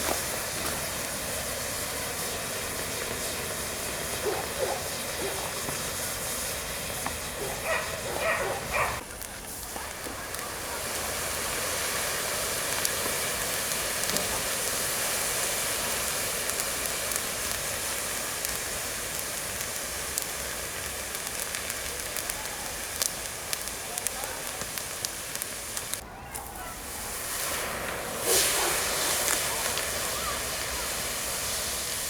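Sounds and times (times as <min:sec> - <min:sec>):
fire crackling: 0:00.0 - 0:32.0
fire hissing: 0:00.0 - 0:32.0.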